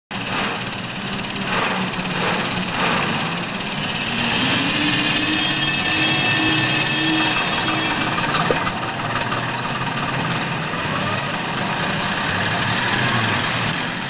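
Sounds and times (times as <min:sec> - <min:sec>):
car and truck engines: 0:00.1 - 0:14.0
low engine note: 0:00.1 - 0:14.0.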